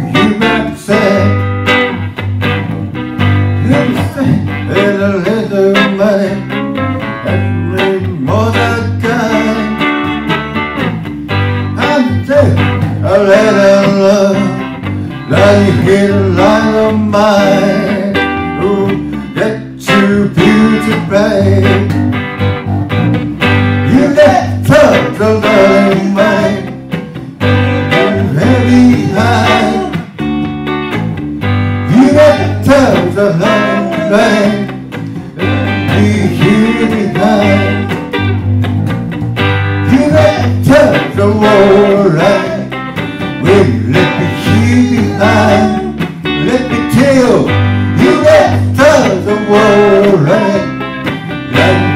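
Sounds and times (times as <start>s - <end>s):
man singing: 0.0s - 1.6s, 3.6s - 10.1s, 11.8s - 22.0s, 23.8s - 30.2s, 31.8s - 38.3s, 39.8s - 50.8s, 51.5s - 51.9s
electric guitar: 0.0s - 51.9s.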